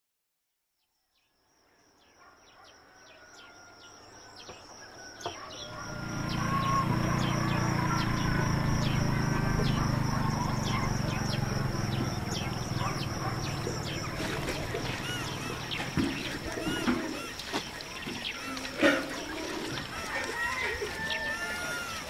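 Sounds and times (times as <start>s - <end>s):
high insect drone: 3.6s - 22.0s.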